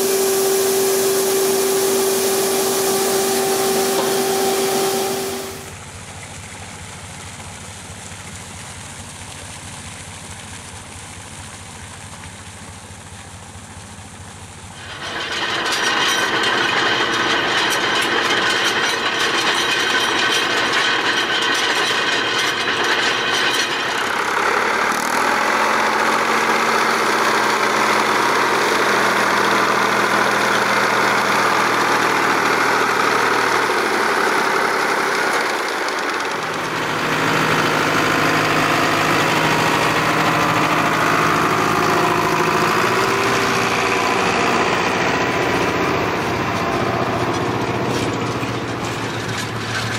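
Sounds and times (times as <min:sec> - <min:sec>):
roller clattering: 0:00.0 - 0:05.7, 0:14.8 - 0:49.9
tractor diesel engine running: 0:00.0 - 0:49.9.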